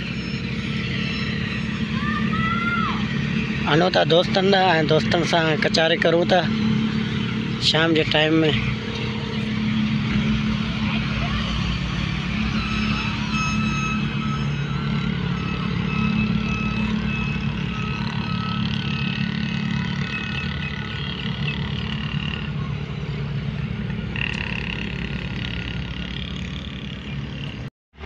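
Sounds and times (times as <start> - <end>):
high engine whine: 0.0 - 28.0
vehicle engine running: 0.0 - 28.0.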